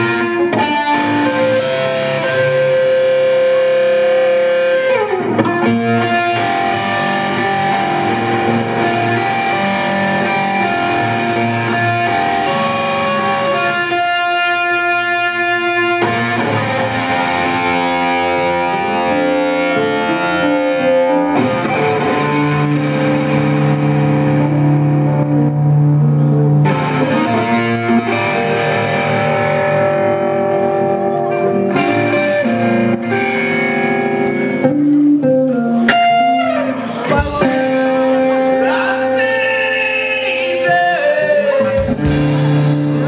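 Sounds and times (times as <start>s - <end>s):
drums: 0.0s - 15.0s, 16.0s - 43.0s
bass guitar: 0.0s - 43.0s
distorted electric guitar: 0.0s - 43.0s.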